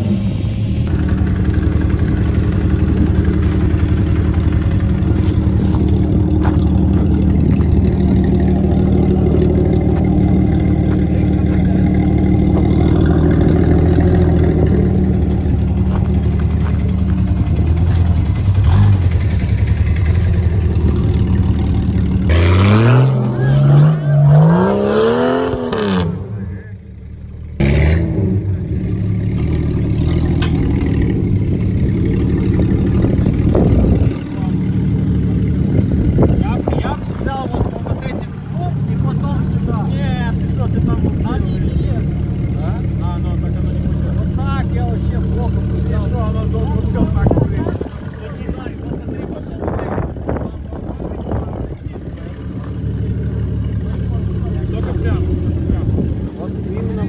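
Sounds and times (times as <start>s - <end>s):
suv engine revving: 0.0s - 50.3s, 50.9s - 57.0s.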